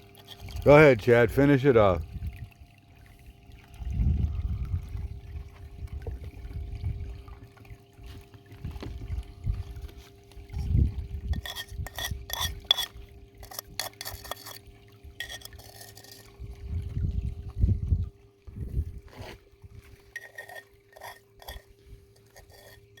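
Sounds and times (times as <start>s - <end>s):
faint steady hum: 0.0s - 23.0s
water pouring and sloshing: 0.0s - 23.0s.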